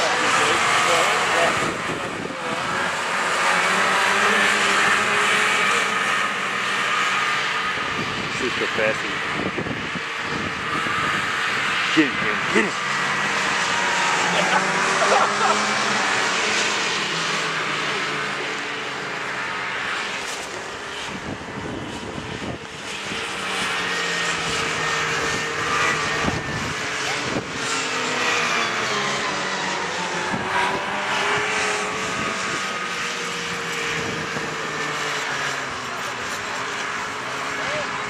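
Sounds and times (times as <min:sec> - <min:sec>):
snowmobile engines running: 0:00.0 - 0:38.0.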